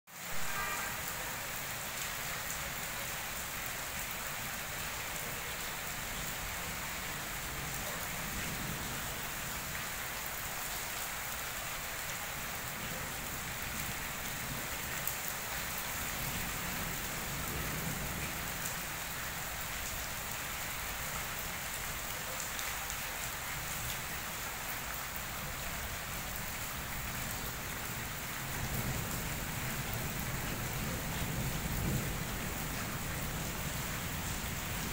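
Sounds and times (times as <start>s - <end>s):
rain on wet paving: 0.1s - 34.9s.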